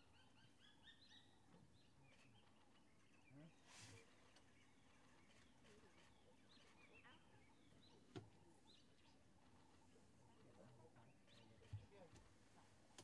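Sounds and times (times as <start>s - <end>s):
distant bird chirps: 0.0s - 11.7s.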